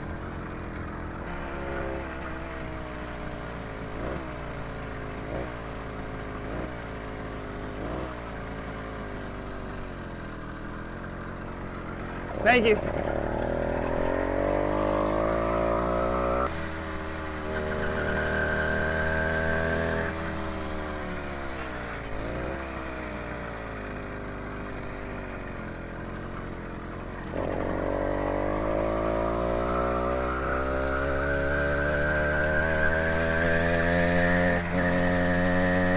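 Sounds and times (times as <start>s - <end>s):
small bicycle engine running: 0.1s - 35.9s.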